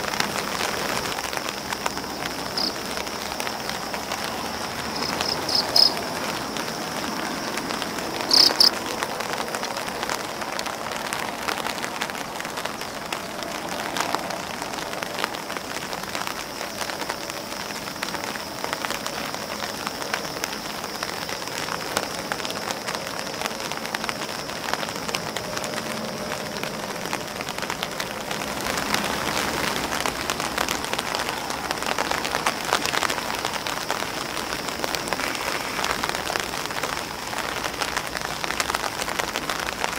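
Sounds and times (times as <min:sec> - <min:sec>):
rain on umbrella and grass: 0:00.0 - 0:39.9.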